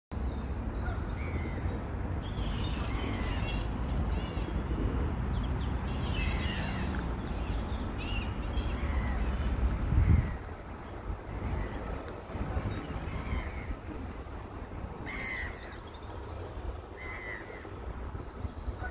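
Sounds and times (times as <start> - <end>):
steady low rumble: 0.2 - 18.9
wild birds calling: 0.7 - 4.7, 5.3 - 18.9.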